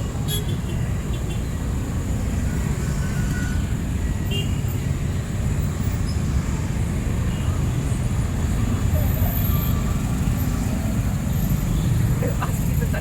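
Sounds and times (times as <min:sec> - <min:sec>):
rumble of passing vehicles: 0:00.0 - 0:13.0.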